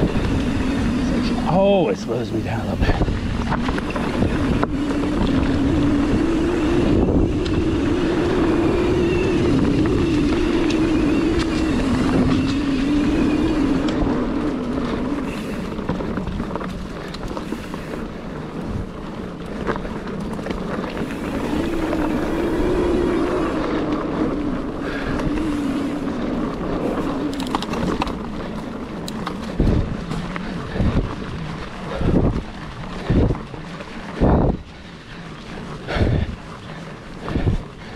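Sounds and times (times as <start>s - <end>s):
wind rushing over microphone: 0.0s - 35.0s, 35.7s - 37.9s
bike tyres humming on dirt: 0.0s - 37.9s.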